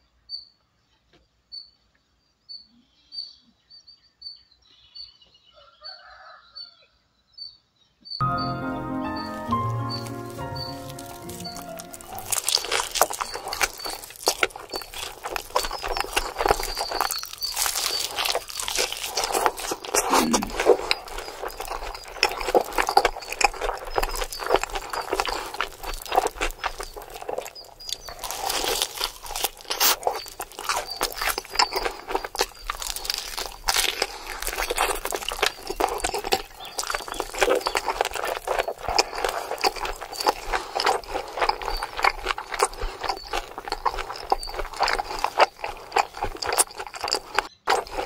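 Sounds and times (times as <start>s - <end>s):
man chewing and smacking: 8.3s - 48.0s
hand squishing rice: 8.4s - 48.0s.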